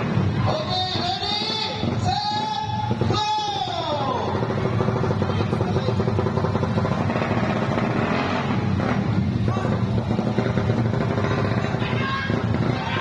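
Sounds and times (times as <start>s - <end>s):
small motorcycle engines running: 0.0s - 13.0s.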